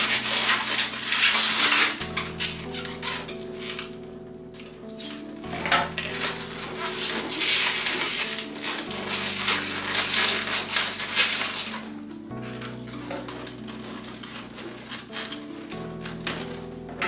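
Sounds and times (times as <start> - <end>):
background music: 0.0 - 17.0
balloons rubbing and crinkling: 0.0 - 17.0.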